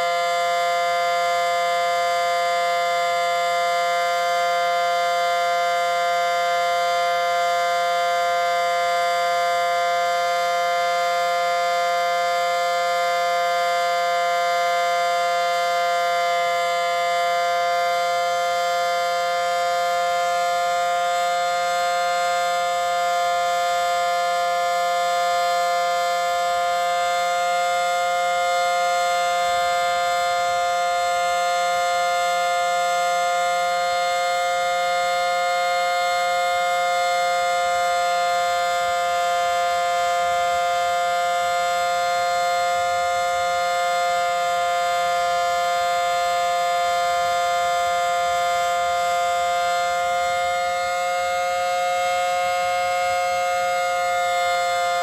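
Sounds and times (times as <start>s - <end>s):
siren steady chord tone: 0.0s - 55.0s.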